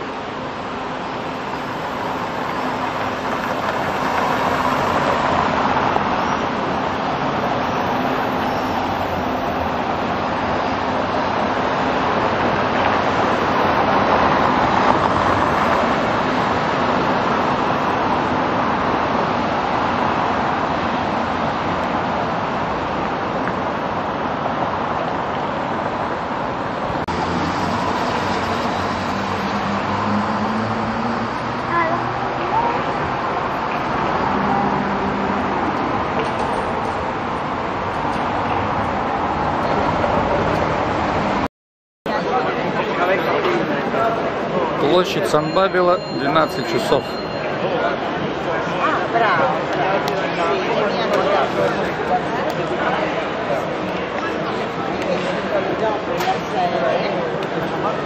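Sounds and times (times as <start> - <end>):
city street traffic: 0.0 - 58.0.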